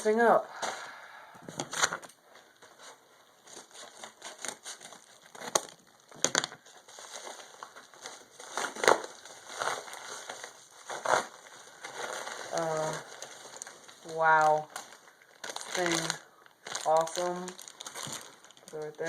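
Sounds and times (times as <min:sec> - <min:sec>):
packaging being torn: 0:03.4 - 0:19.0.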